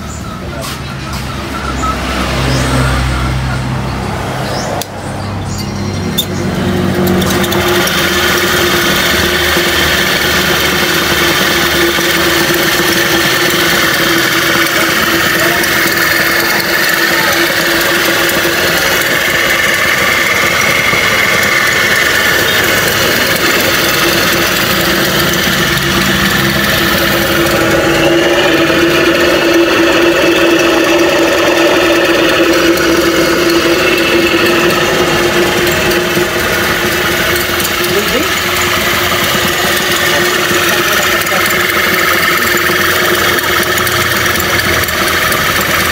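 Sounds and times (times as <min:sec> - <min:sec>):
whirring rattle: 0:00.0 - 0:45.9
electric motor humming: 0:06.0 - 0:45.9.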